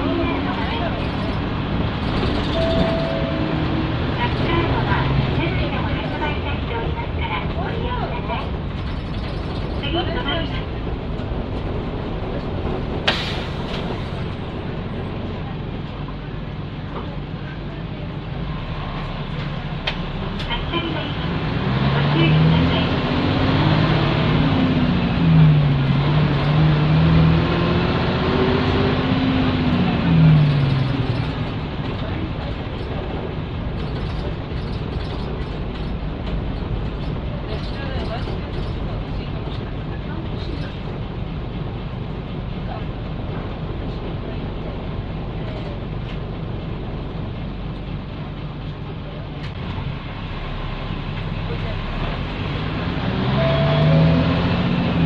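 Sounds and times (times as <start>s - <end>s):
bus diesel engine under load: 0.0s - 55.0s
road noise: 0.0s - 55.0s.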